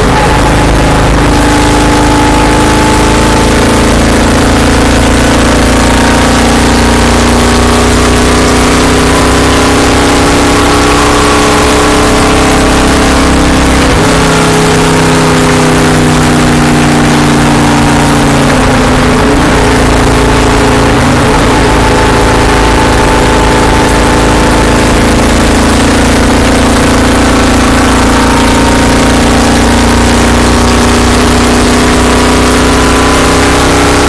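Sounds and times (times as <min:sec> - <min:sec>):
stock car engine running hard: 0:00.0 - 0:34.0.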